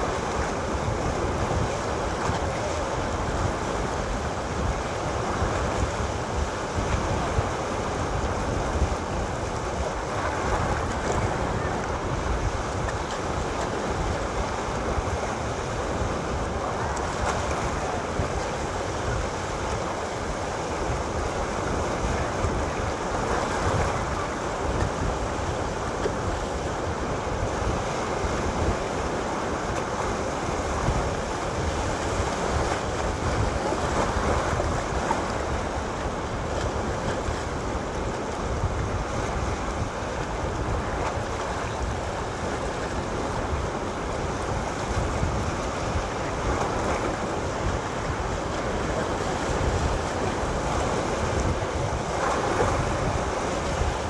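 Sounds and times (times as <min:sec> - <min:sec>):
waves breaking on rocks: 0:00.0 - 0:54.0.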